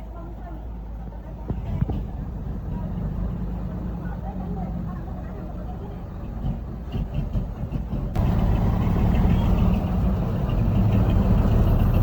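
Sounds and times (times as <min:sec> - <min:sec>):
heavy diesel engines rumbling: 0:00.0 - 0:12.0.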